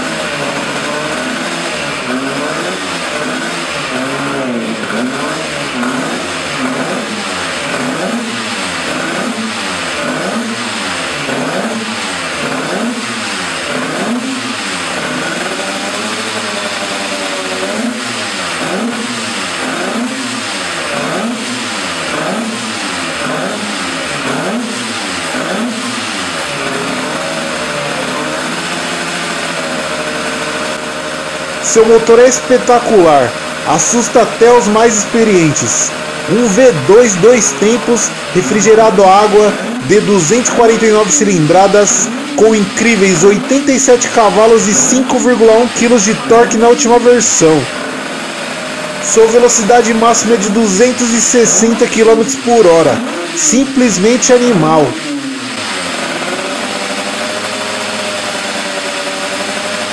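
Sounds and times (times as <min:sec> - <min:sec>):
two-stroke racing engine revving: 0:00.0 - 0:59.9.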